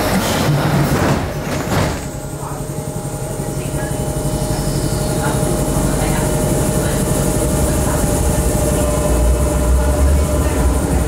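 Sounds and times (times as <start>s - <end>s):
constant train whine: 0.0s - 11.0s
train rumble in tunnel: 0.0s - 11.0s.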